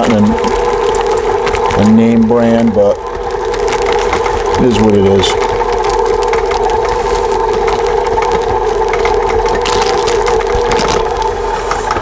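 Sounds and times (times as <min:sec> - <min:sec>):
stand mixer motor hum: 0:00.0 - 0:12.0.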